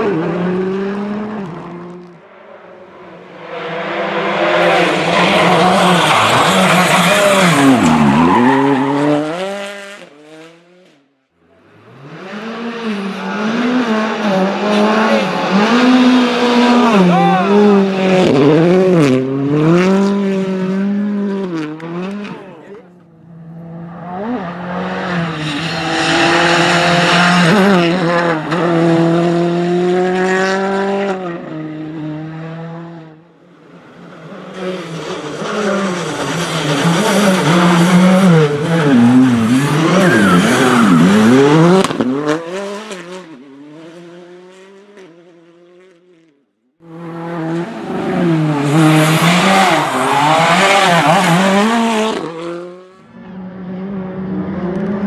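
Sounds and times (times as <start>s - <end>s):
rally car engine at full throttle: 0.0s - 55.0s.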